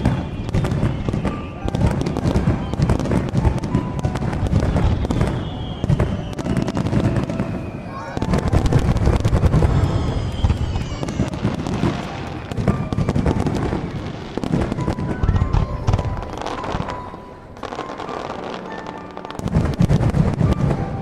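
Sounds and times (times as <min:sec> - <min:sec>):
fireworks crackling and popping: 0:00.0 - 0:21.0
fireworks low booms: 0:00.0 - 0:21.0.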